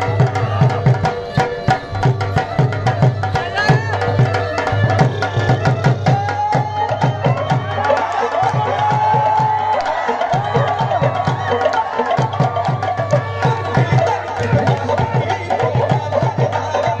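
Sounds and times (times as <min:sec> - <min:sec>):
bhangra melody line: 0:00.0 - 0:17.0
dhol drum beating fast: 0:00.0 - 0:17.0.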